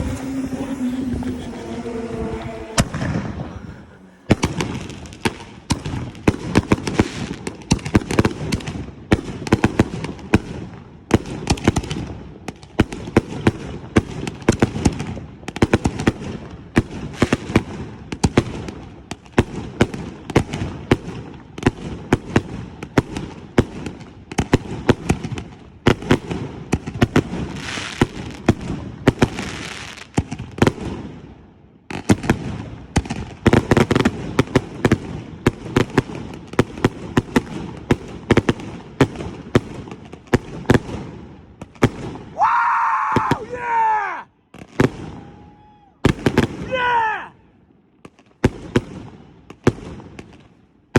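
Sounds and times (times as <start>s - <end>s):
fireworks bangs and crackling: 0.0s - 42.4s, 43.1s - 43.6s, 44.5s - 47.0s, 47.9s - 50.9s.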